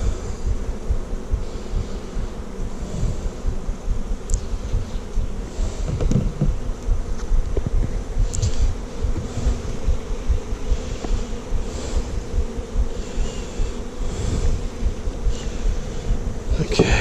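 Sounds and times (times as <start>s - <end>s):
bees buzzing: 0.0s - 17.0s
wind buffeting microphone: 0.0s - 17.0s.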